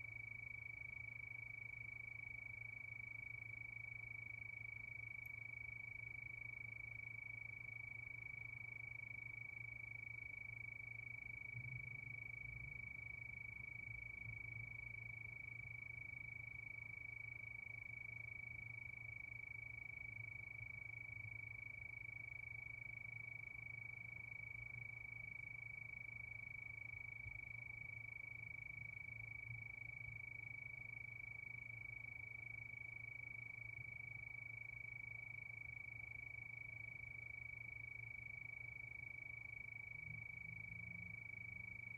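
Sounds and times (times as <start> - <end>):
faint low hum: 0.0 - 41.9.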